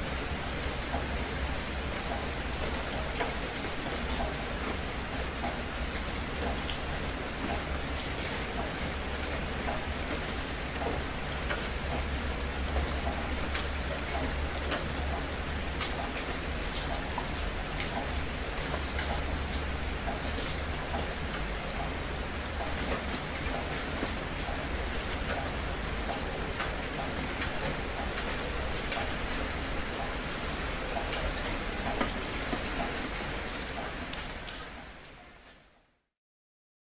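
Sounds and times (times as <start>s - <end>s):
rain with ticking drops: 0.0s - 36.1s.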